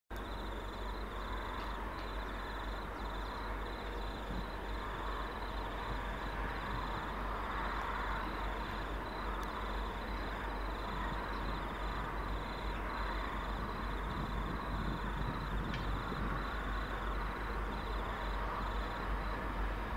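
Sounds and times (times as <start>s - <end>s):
distant diesel locomotive rumble: 0.1s - 19.9s
insects trilling: 0.2s - 19.7s.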